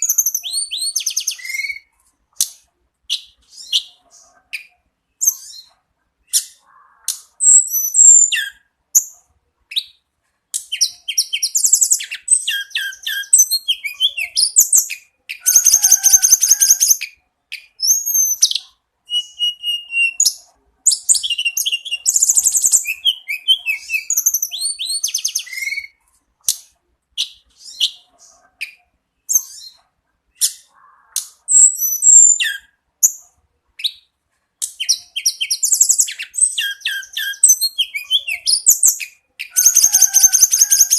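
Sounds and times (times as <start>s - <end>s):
bird singing chirps and trills: 0.0s - 1.9s, 3.1s - 9.2s, 10.6s - 26.0s, 27.2s - 29.8s, 30.4s - 40.9s.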